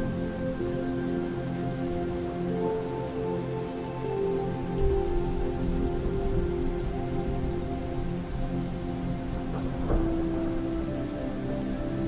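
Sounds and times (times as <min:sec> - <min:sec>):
gentle piano music: 0:00.0 - 0:12.0
steady rainfall: 0:00.0 - 0:12.0.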